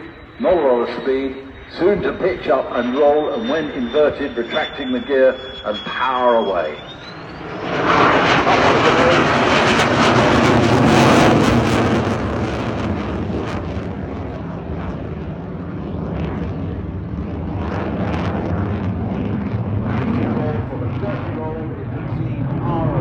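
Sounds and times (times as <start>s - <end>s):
loud jet engine rushing: 0.0s - 23.0s.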